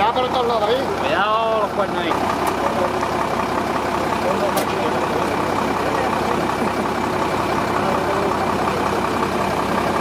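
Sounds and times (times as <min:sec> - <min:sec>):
lorry engine idling: 0:00.0 - 0:10.0.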